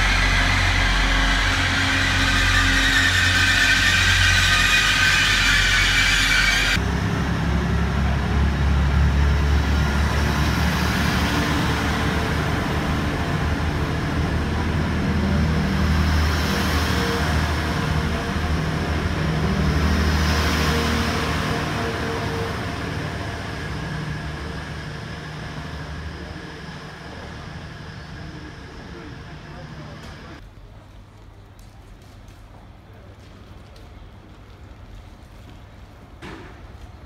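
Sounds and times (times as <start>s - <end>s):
passenger train rumbling past: 0.0s - 30.4s.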